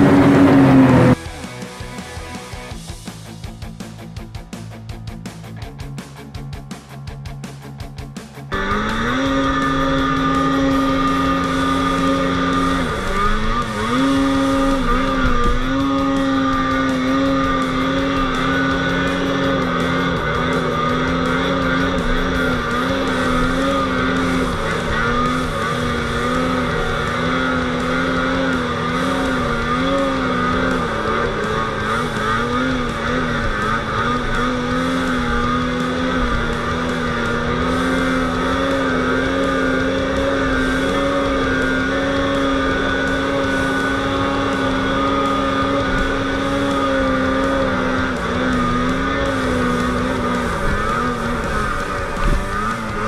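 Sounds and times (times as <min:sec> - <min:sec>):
snowmobile engine under throttle: 0:00.0 - 0:53.0.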